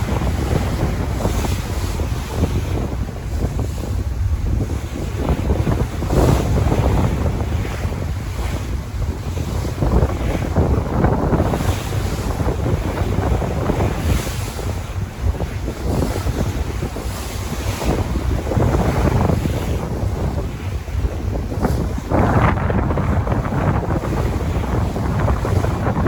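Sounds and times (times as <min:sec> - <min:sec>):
sea waves washing: 0:00.0 - 0:26.0
wind buffeting microphone: 0:00.0 - 0:26.0.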